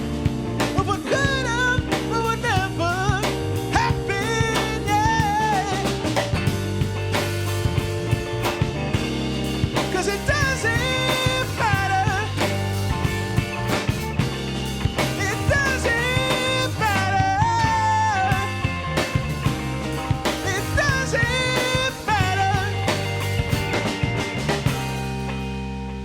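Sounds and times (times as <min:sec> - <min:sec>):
bass: 0:00.0 - 0:26.0
busy drum kit: 0:00.0 - 0:26.0
lead guitar melody with bent notes: 0:00.0 - 0:26.0.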